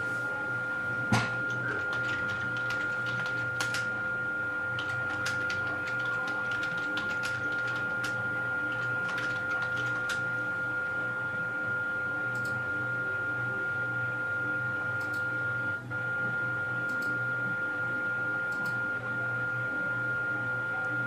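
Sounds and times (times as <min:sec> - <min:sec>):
electrical hum with tones: 0:00.0 - 0:21.0.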